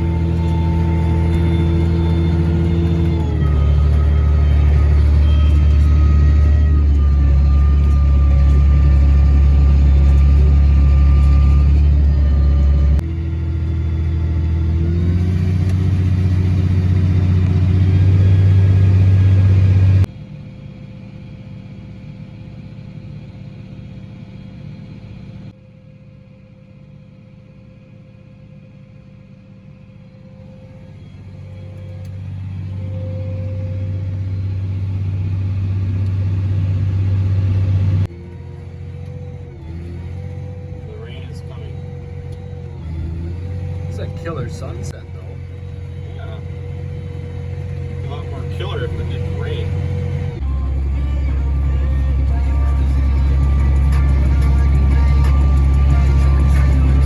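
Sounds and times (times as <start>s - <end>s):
harvester engine rumbling: 0.0s - 57.0s.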